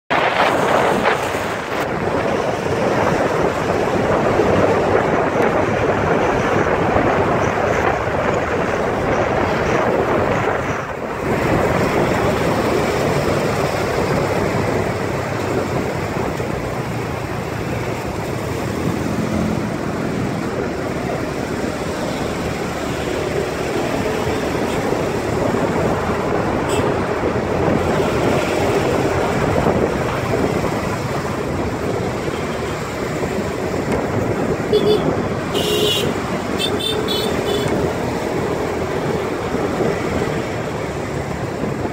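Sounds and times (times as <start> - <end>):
road and traffic noise: 0.0 - 41.9
wind rushing over microphone: 0.1 - 41.9.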